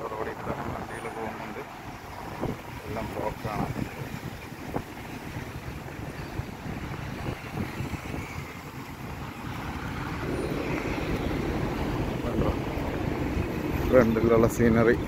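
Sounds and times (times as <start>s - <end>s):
car and truck engines rumbling: 0.0s - 15.0s.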